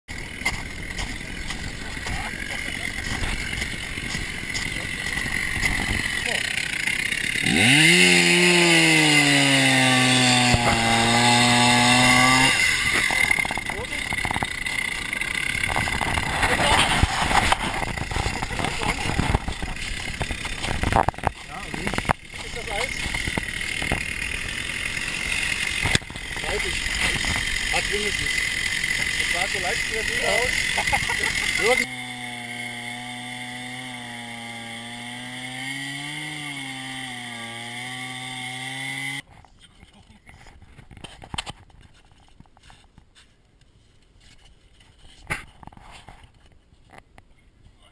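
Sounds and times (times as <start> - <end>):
chainsaw engine idling: 0.1 - 39.2.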